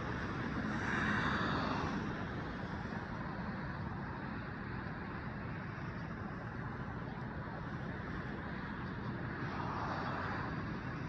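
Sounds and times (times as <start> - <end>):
passing cars: 0.0 - 11.0.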